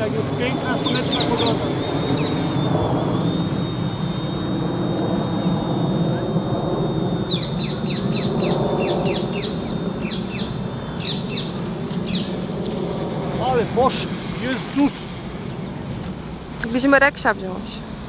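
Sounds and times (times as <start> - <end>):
birds chirping: 0.0 - 16.0
drone whine overhead: 0.0 - 18.0.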